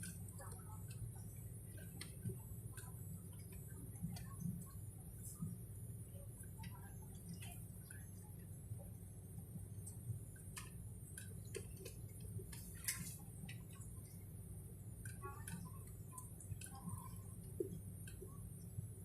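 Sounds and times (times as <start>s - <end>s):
light ticks and clicks: 0.0s - 9.0s, 9.6s - 19.0s.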